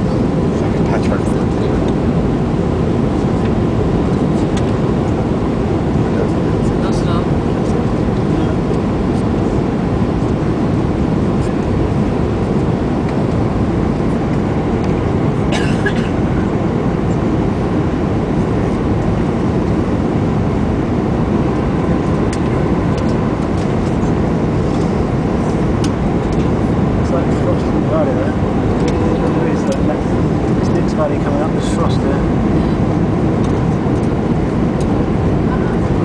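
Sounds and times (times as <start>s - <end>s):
faint steady whine: 0.0s - 36.0s
jet cabin engine and airflow noise: 0.0s - 36.0s.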